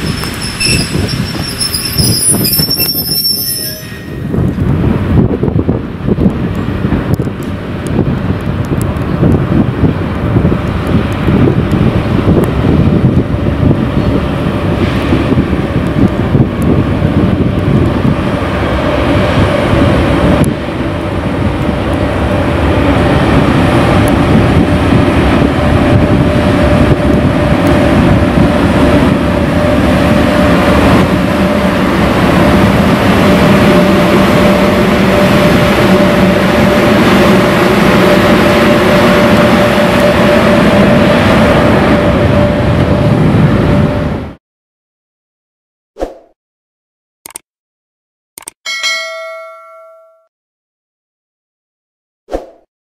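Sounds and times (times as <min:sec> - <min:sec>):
wind buffeting microphone: 0:00.0 - 0:03.2, 0:04.0 - 0:44.4
electric locomotive running: 0:00.0 - 0:44.2.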